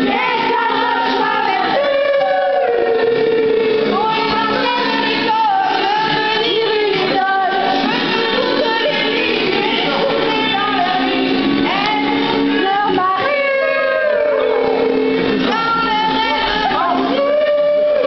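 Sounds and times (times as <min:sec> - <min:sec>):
group singing loudly: 0:00.0 - 0:18.0.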